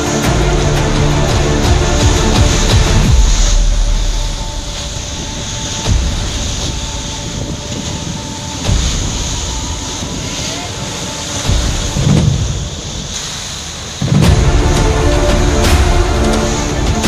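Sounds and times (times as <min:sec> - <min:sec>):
rushing wind: 0:00.0 - 0:17.0
sea: 0:00.0 - 0:17.0
ship engines droning: 0:00.0 - 0:17.0.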